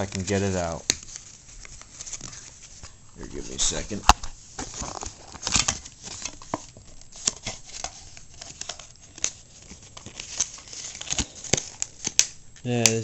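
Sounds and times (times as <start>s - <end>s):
paper and cardboard rustling: 0.0s - 13.0s.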